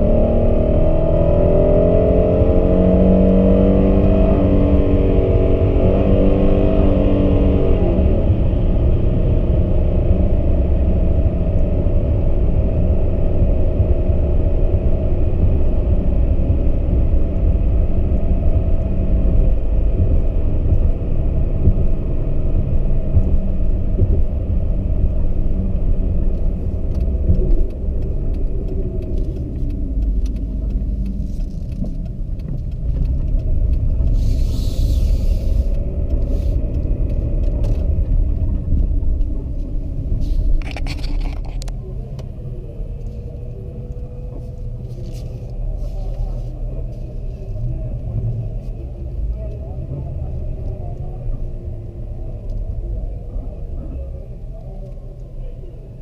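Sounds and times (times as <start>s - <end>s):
car engine low rumble: 0.0s - 56.0s
road noise inside car: 0.0s - 56.0s.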